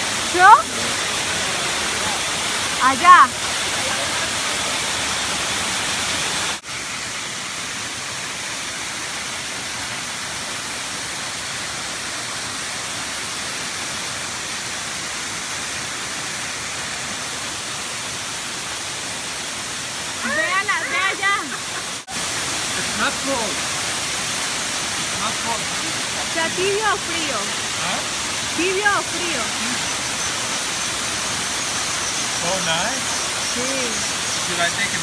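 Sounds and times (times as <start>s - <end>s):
waterfall pouring into pool: 0.0s - 35.0s.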